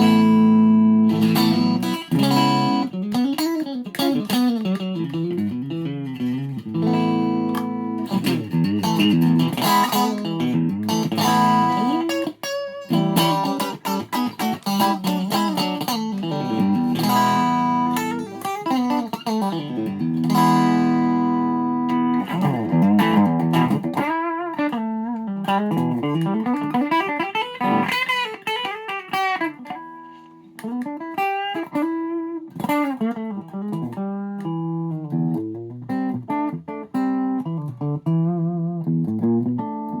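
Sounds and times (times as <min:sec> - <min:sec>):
electric guitar playing: 0:00.0 - 0:40.0.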